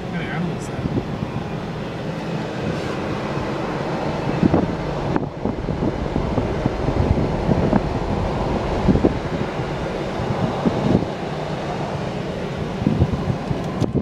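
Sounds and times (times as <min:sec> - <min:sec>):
car road noise: 0:00.0 - 0:14.0
wind crackles and pops: 0:00.0 - 0:14.0
wind on microphone: 0:00.5 - 0:14.0.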